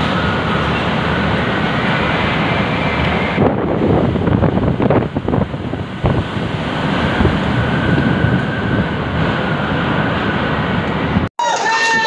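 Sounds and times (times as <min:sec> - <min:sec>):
strong wind gusts on microphone: 0:00.0 - 0:11.3.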